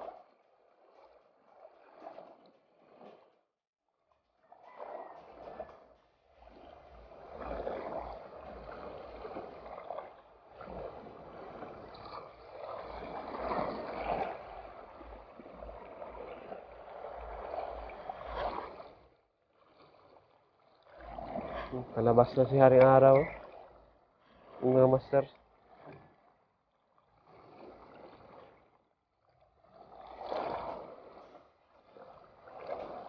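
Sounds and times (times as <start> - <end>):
water sloshing and lapping: 0.0 - 33.0.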